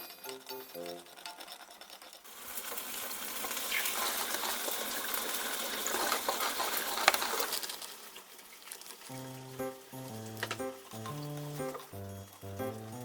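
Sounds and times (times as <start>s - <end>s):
food sizzling in a frying pan: 2.3s - 13.0s.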